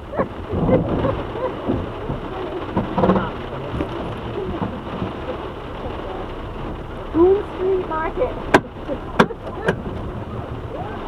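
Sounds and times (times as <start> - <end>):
faint voices talking: 0.0 - 11.0
steady rain falling: 0.0 - 11.0.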